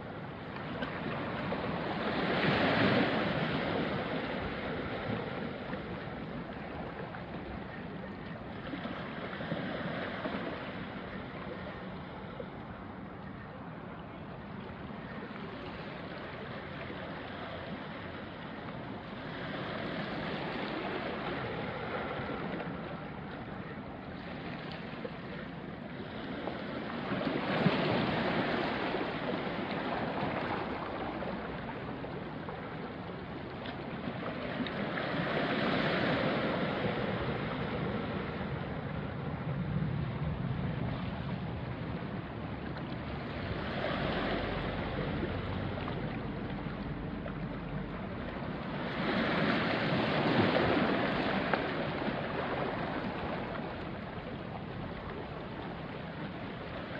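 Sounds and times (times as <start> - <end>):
waves washing onto rocky shore: 0.0 - 12.6, 14.8 - 56.9.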